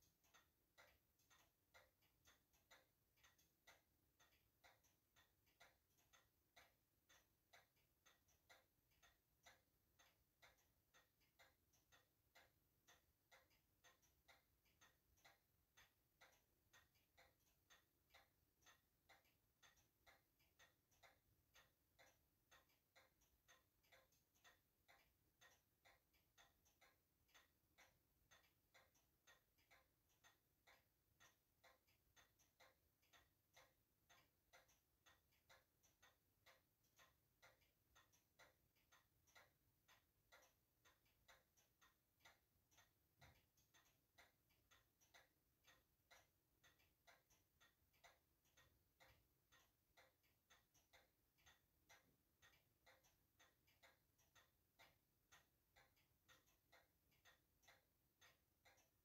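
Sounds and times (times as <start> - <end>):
faint clock ticking: 0.0 - 59.0.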